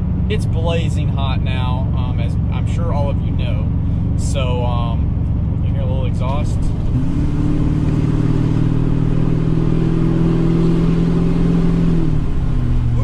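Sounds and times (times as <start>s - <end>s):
diesel exhaust accelerating: 0.0s - 13.0s.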